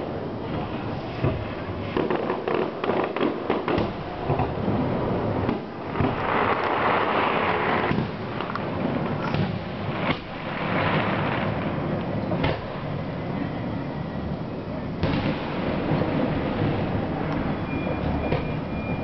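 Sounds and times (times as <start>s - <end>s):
firework cracks and bangs: 0.0s - 13.3s, 15.0s - 18.8s
dense firework hiss: 0.0s - 13.6s, 14.3s - 18.7s.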